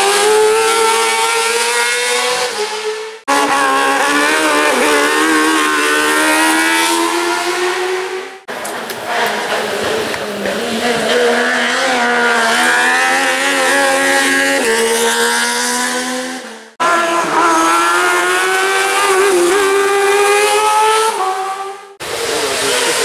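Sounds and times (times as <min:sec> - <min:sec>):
racing buggy engines revving high: 0:00.0 - 0:23.0.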